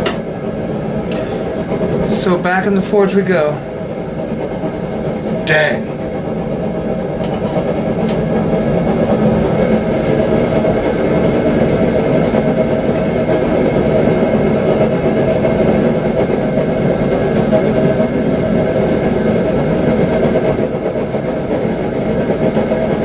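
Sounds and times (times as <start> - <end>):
forge blower rushing: 0.0 - 23.0.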